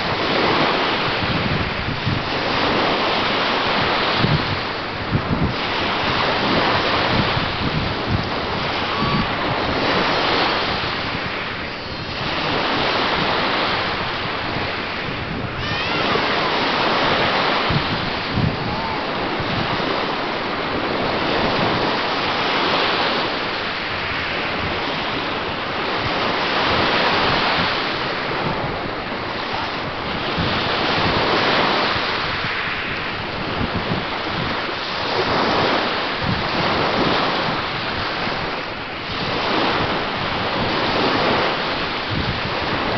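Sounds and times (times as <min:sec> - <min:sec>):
waves breaking on sand beach: 0:00.0 - 0:42.9
wind buffeting microphone: 0:00.0 - 0:42.9.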